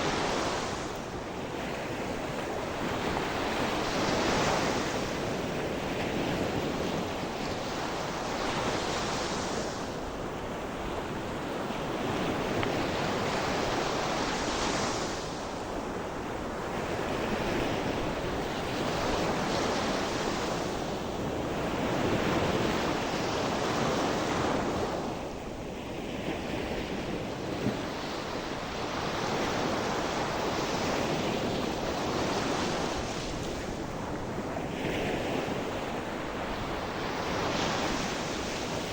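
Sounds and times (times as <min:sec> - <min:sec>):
sea waves breaking on shore: 0:00.0 - 0:38.9
wind on microphone: 0:00.0 - 0:38.9.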